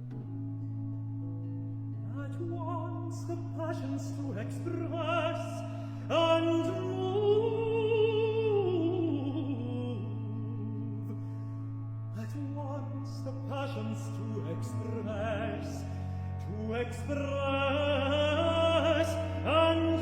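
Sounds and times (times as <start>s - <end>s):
countertenor singing: 2.1s - 11.1s, 12.2s - 20.0s.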